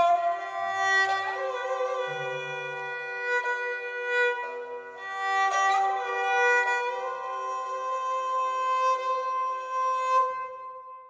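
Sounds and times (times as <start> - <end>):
bowed string melody: 0.0 - 11.0.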